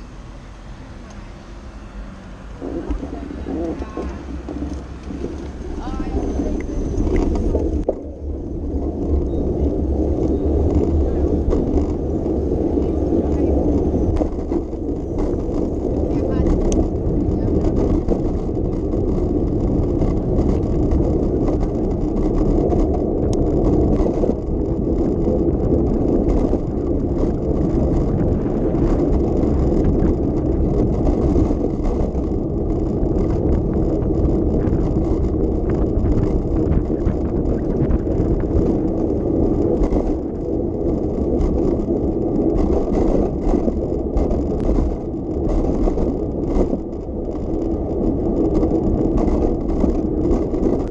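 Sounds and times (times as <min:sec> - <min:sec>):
bicycle tyres rumbling on road: 0:00.0 - 0:50.9
bike rattling and clicking: 0:02.5 - 0:50.9.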